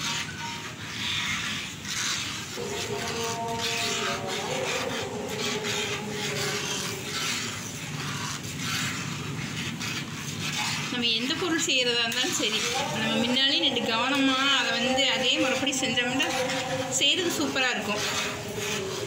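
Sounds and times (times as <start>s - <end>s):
spatula scraping pan: 0.0s - 19.0s.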